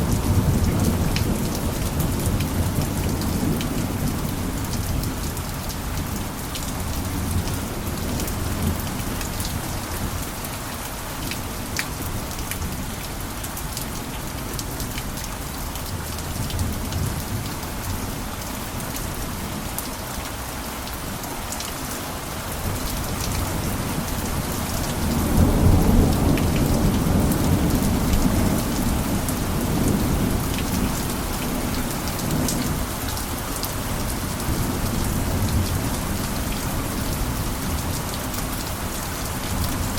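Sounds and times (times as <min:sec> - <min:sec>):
rain pattering on roof: 0:00.0 - 0:39.9.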